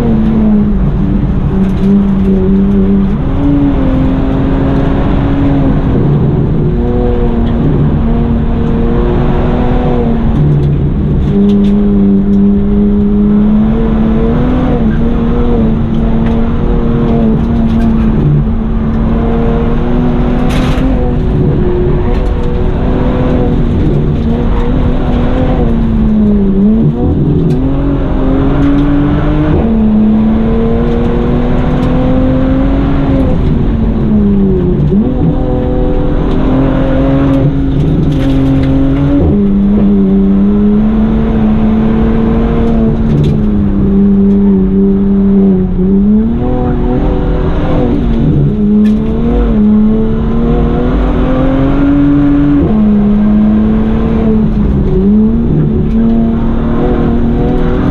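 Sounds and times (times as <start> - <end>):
car engine accelerating hard: 0.0 - 57.9.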